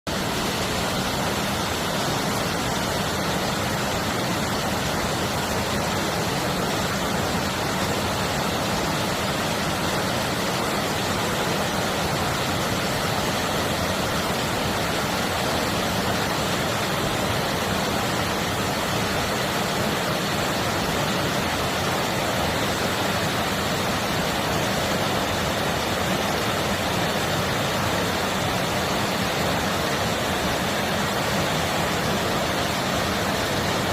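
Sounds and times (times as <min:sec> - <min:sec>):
stream flowing: 0:00.1 - 0:33.9.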